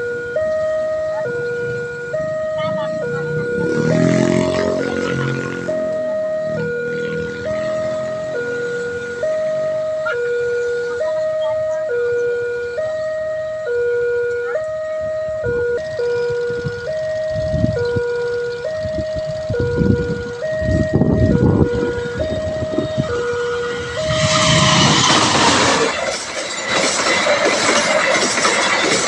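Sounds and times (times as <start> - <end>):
train passing on rails: 0.0 - 12.2, 15.3 - 29.0
level crossing two-tone alarm: 0.0 - 29.0.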